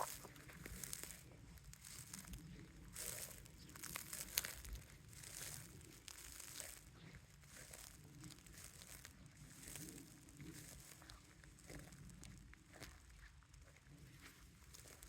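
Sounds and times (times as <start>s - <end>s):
footsteps crunching dry leaves: 0.0s - 13.1s, 14.7s - 15.0s.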